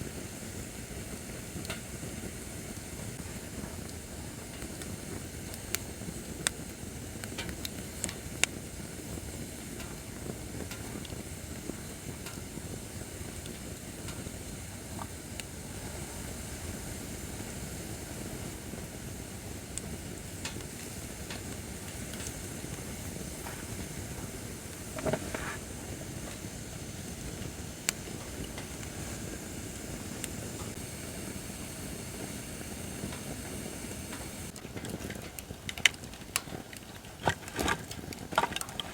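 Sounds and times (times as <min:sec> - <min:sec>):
rush of flame: 0:00.0 - 0:38.4
fire crackling and popping: 0:00.0 - 0:38.9.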